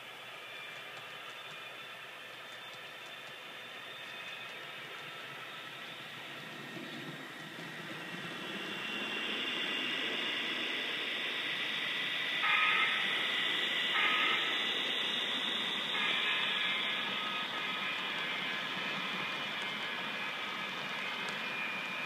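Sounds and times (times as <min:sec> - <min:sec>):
model train running on rails: 0:00.0 - 0:22.0.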